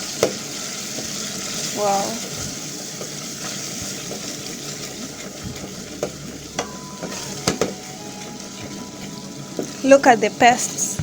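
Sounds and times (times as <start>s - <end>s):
curry paste sizzling in a pan: 0.0s - 11.0s.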